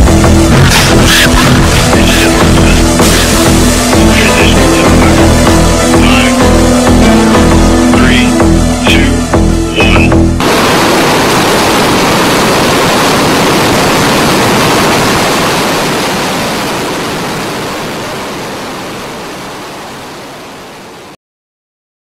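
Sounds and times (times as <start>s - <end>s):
steady rushing noise: 0.0s - 21.2s.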